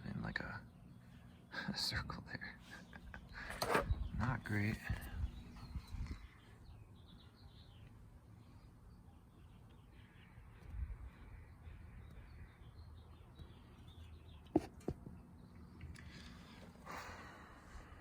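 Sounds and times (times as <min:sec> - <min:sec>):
faint birds calling: 0:00.0 - 0:18.0.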